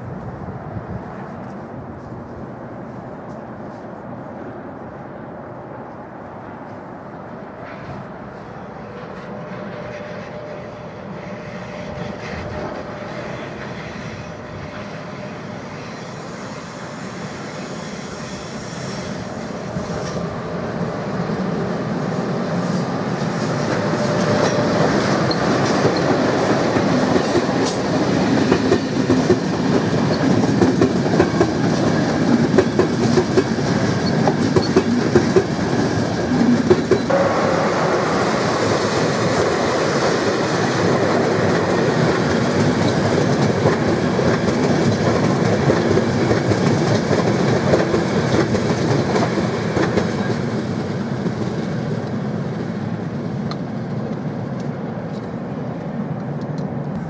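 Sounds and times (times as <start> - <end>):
train passing: 0.0 - 57.0.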